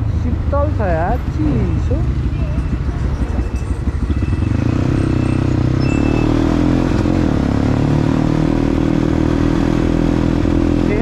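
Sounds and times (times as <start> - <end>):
dirt bike engine: 0.8 - 11.0.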